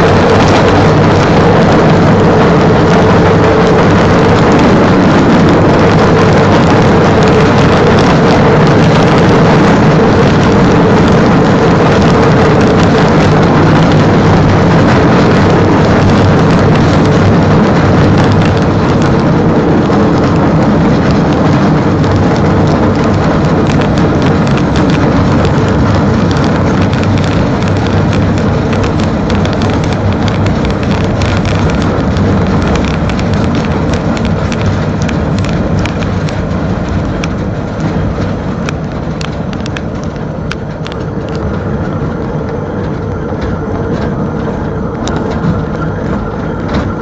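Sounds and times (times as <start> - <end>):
low hum: 0.0 - 47.0
rail vehicle rumbling: 0.0 - 47.0
wheels clattering on rails: 0.0 - 47.0.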